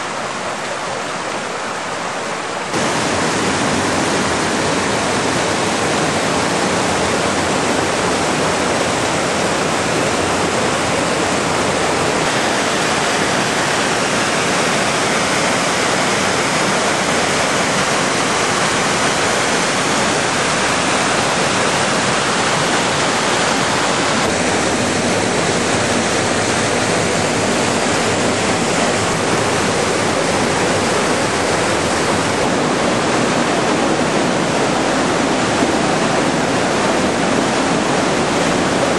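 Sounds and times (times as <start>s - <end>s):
white water cascading over rocks: 0.0s - 38.9s.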